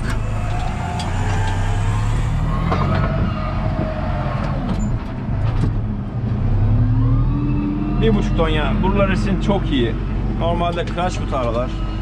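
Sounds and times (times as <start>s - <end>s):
diesel tractor engine under load: 0.0s - 12.0s.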